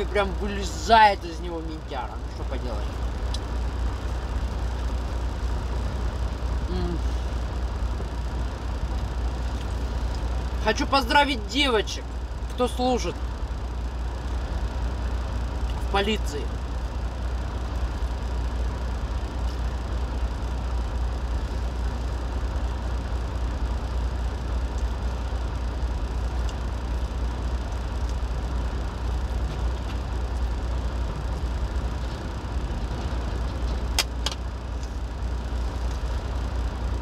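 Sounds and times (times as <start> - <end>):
truck idling: 0.0 - 37.0.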